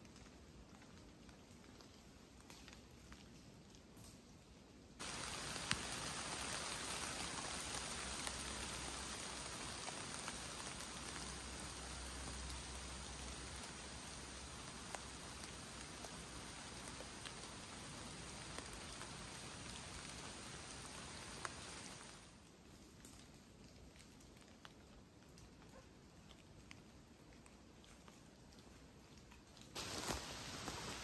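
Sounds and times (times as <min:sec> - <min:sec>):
rain on trees and leaves: 0:00.0 - 0:31.0.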